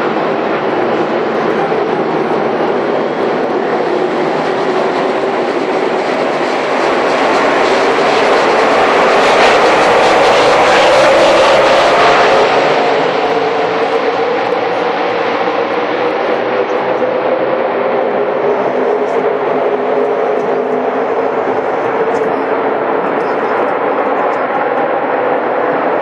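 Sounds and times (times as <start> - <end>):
racing car engines passing: 0.0 - 26.0.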